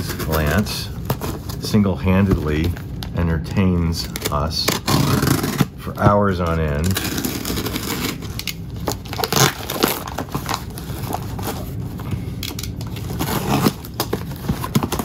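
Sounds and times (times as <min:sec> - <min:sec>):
paper and cardboard rustling: 0:00.0 - 0:02.9, 0:03.9 - 0:12.1, 0:12.9 - 0:15.0.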